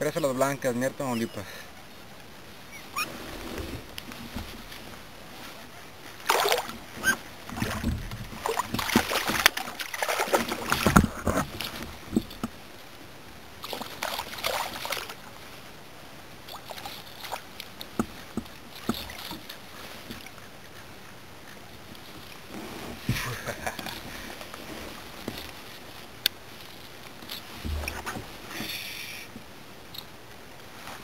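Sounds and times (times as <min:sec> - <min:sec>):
water splashing beside kayak: 0:01.1 - 0:31.0.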